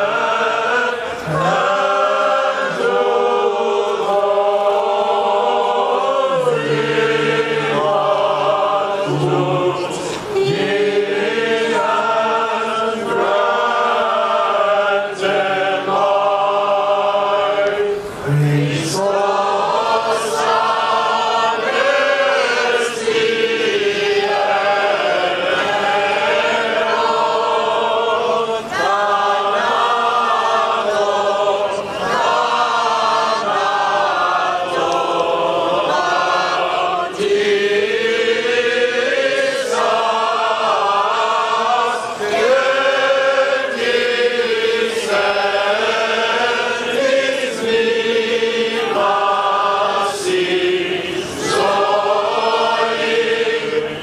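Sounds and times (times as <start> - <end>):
choir chanting: 0.0 - 54.0.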